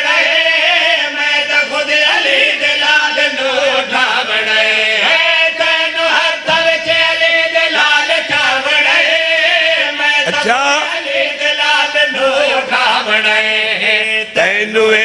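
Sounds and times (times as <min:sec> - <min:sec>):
men chanting into microphones: 0:00.0 - 0:15.0.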